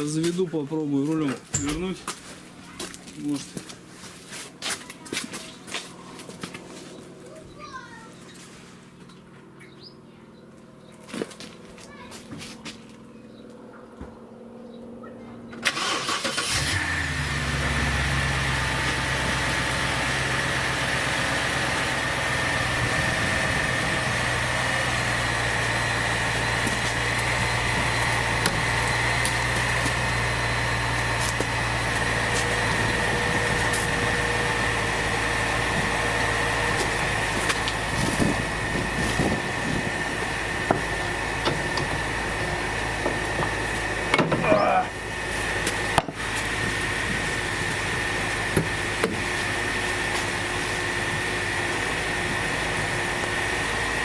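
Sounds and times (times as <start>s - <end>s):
car engine cranking and idling: 0.0s - 54.0s.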